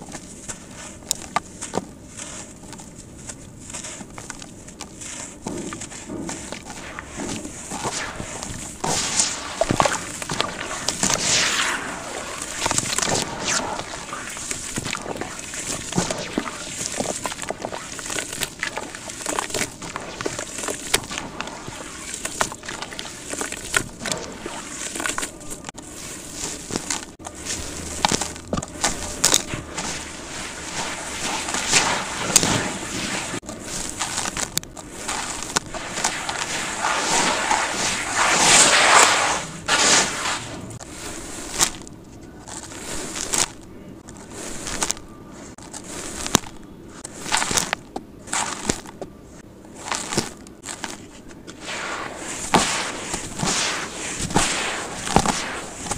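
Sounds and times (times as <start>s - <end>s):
cement chunks crunching by hand: 0.0s - 39.1s, 40.8s - 49.1s, 49.7s - 55.9s.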